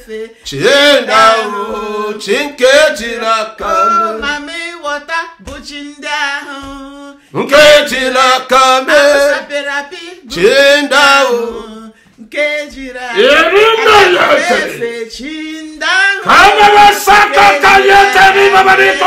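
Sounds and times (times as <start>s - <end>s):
man and woman singing: 0.0s - 19.0s.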